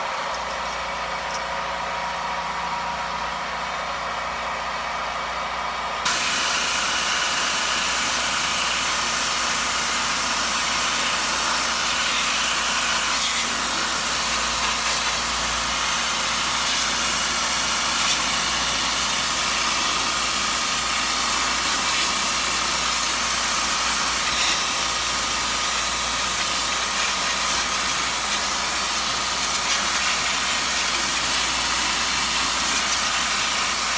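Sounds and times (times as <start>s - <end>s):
pressure washer spray hissing: 6.1s - 33.9s.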